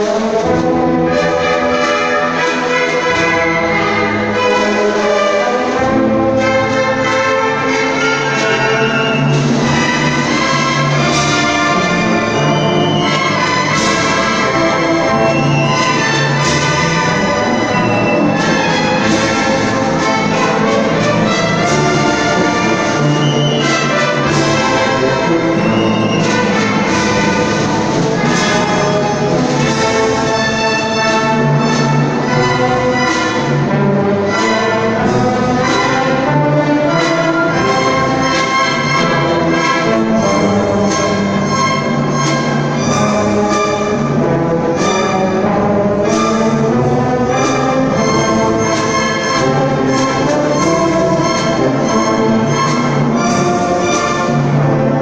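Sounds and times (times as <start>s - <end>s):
brass sustained chords: 0.0s - 55.0s
symphony orchestra playing: 0.0s - 55.0s.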